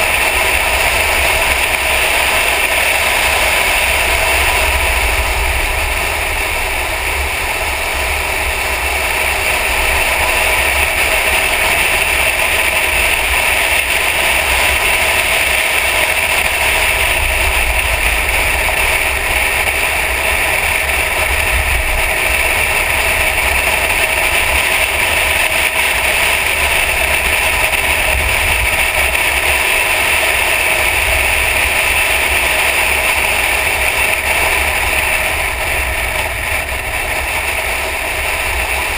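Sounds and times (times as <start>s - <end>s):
car engine rumbling at speed: 0.0s - 38.9s
wind and road noise: 0.0s - 38.9s.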